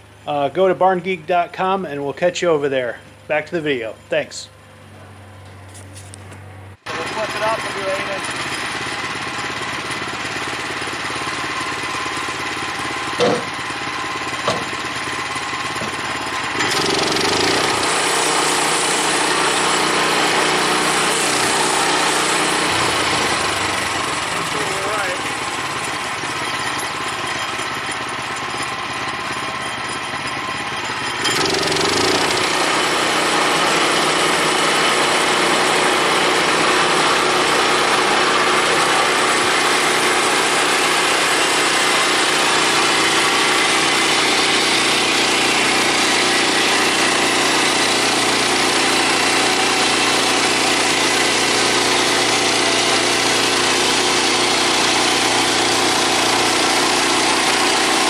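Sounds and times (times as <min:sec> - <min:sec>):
band sawmill sawing timber: 0:06.8 - 0:58.0.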